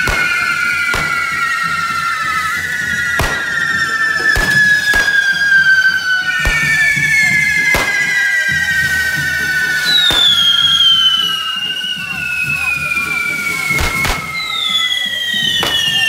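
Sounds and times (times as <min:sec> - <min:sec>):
firecracker bangs: 0:00.0 - 0:16.0
shrill firework whistles: 0:00.0 - 0:16.0.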